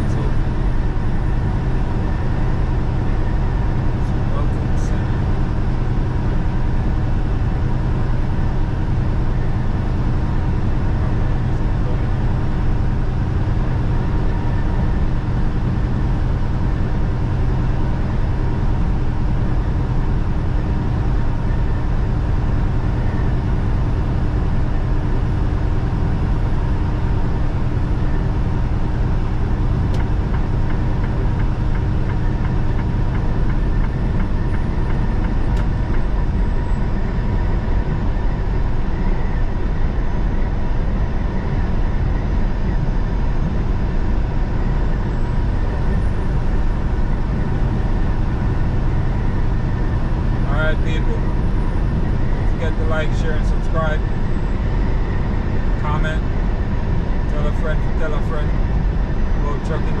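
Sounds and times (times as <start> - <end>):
road noise: 0.0 - 60.0
truck diesel engine drone: 0.0 - 60.0.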